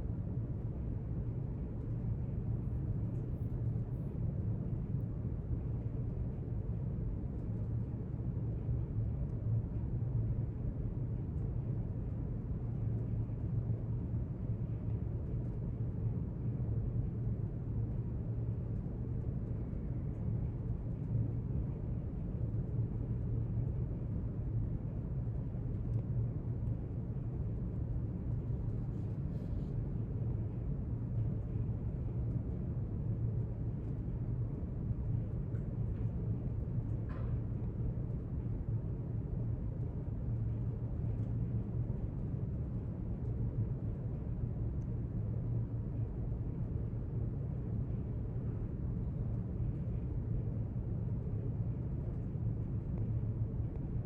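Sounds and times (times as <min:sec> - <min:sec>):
low room rumble: 0:00.0 - 0:54.0.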